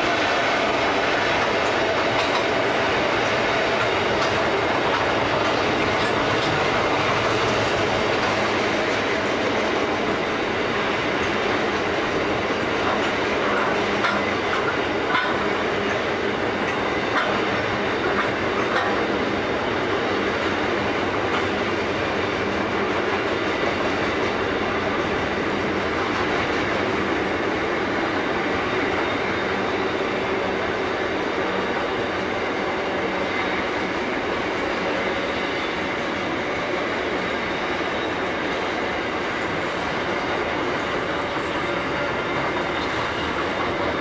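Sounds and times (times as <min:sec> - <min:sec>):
diesel locomotives passing: 0:00.0 - 0:44.0
train wheels rumbling on rails: 0:00.0 - 0:44.0.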